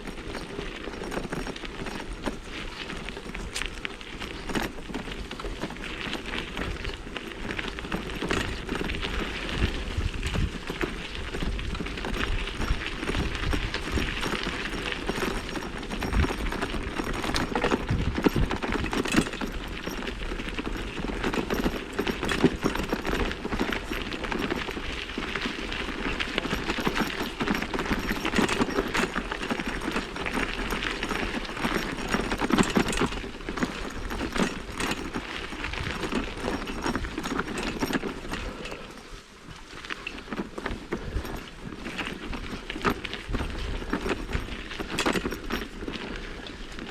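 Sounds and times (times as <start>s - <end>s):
bike clicking and knocking: 0.0s - 39.0s, 39.8s - 46.2s
tyre noise on dirt: 0.0s - 46.9s.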